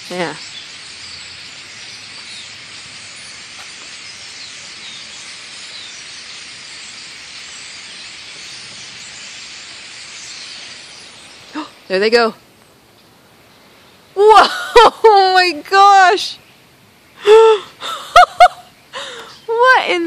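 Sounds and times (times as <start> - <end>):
flock of blackbirds chirping: 0.0 - 20.0.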